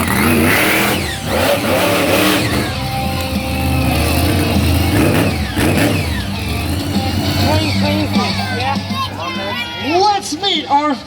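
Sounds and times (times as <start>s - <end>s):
truck engine revving: 0.0s - 9.0s.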